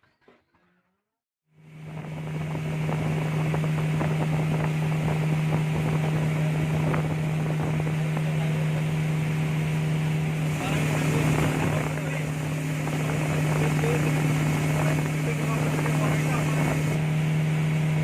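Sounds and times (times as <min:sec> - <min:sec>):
motorboat engine running: 0:01.6 - 0:18.0.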